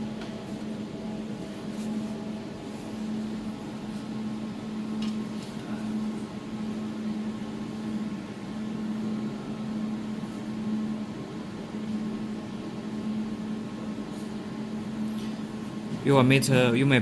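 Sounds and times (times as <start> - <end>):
cooling fan and pump hum: 0.0 - 17.0.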